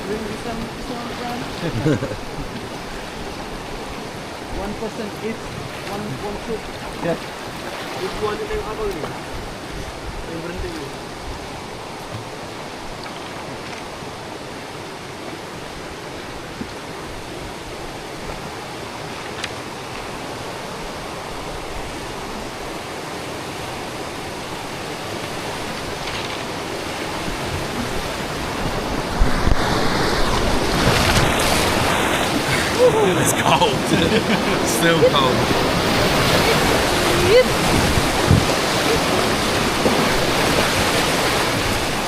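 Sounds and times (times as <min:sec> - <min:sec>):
rushing river water: 0:00.0 - 0:42.0.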